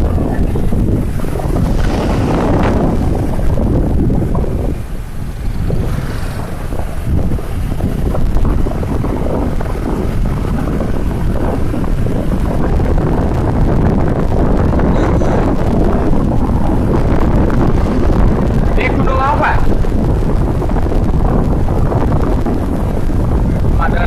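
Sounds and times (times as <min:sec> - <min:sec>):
steady low rushing rumble: 0:00.0 - 0:24.0
wind buffeting microphone: 0:00.0 - 0:24.0.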